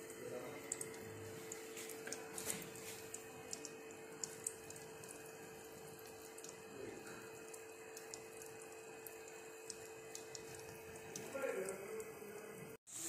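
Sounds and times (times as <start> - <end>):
chicken deep-frying in oil: 0.0 - 13.0
faint steady hum: 0.0 - 13.0.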